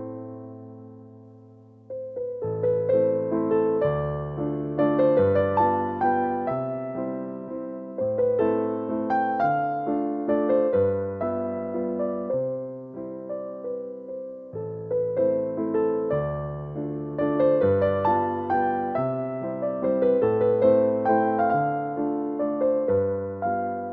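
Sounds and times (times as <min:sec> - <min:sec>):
gentle electric piano melody: 0:00.0 - 0:23.9.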